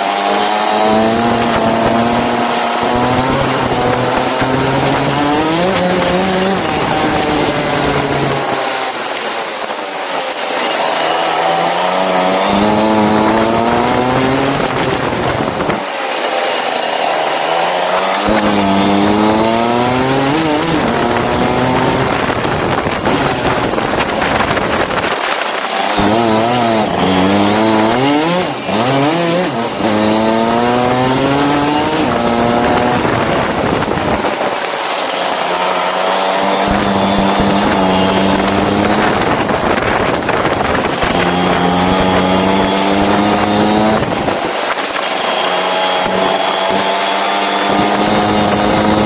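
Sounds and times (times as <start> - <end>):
go-kart engine revving: 0.0 - 49.0.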